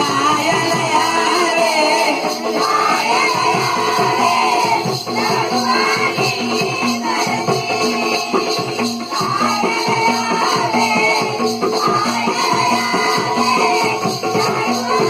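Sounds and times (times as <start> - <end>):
jingling shaking rhythm: 0.0 - 15.0.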